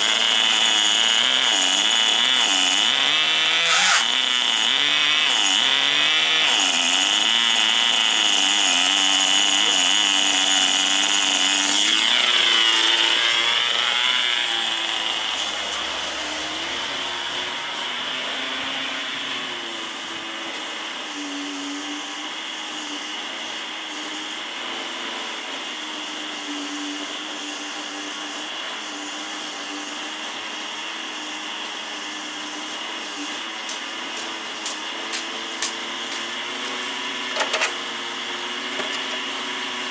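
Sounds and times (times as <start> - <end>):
model car engine revving high: 0.0 - 39.9.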